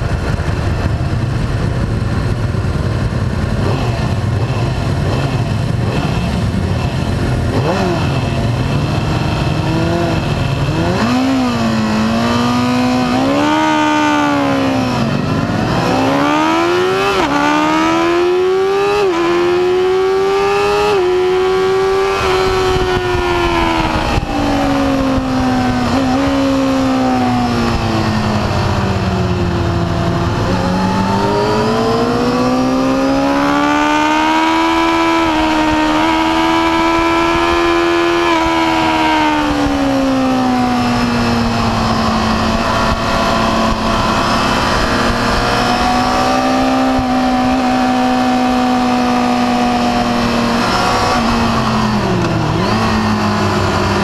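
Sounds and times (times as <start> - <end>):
motorcycle engine racing: 0.0 - 54.0
wind rush: 0.0 - 54.0.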